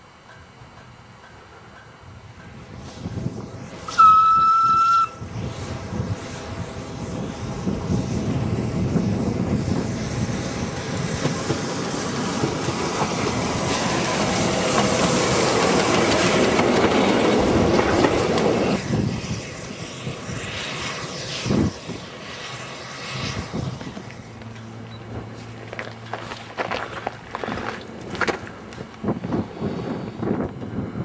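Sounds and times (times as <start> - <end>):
steam train passing: 0.0 - 31.0.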